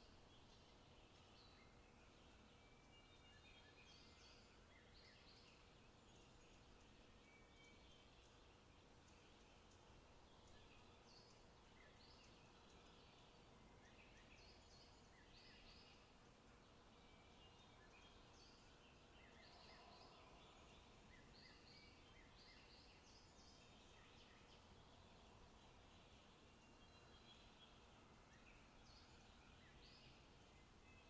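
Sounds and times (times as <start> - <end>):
low steady background hiss: 0.0 - 31.0.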